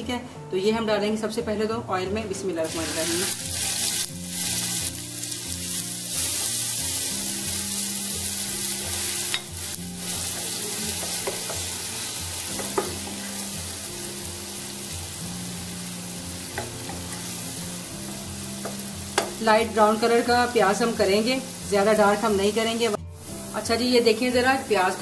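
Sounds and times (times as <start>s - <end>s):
onions sizzling in oil: 2.6s - 25.0s.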